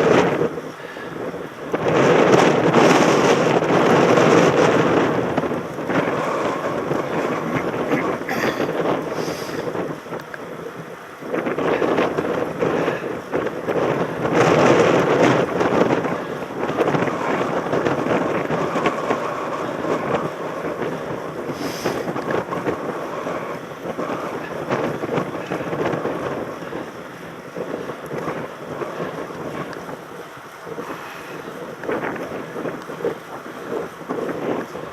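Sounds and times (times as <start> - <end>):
bike rattling over rough ground: 0.0 - 34.9
wind buffeting microphone: 0.0 - 34.9.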